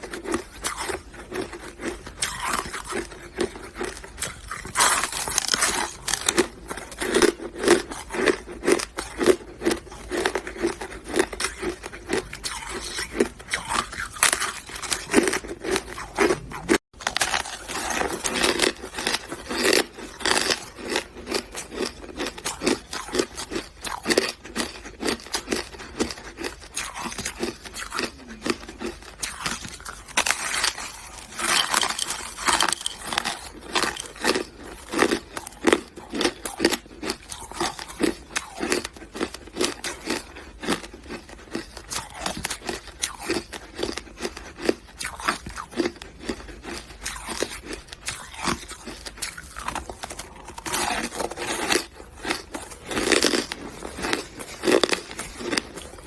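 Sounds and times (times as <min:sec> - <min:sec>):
person chewing crunchy ice: 0:00.0 - 0:56.0.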